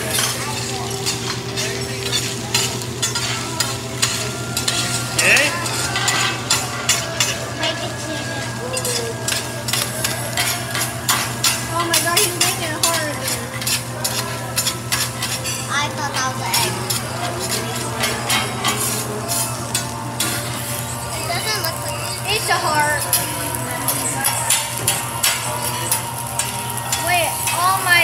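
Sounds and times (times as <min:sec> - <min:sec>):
metal spatulas scraping on griddle: 0:00.0 - 0:20.9, 0:22.3 - 0:27.8
rice sizzling: 0:00.0 - 0:28.0.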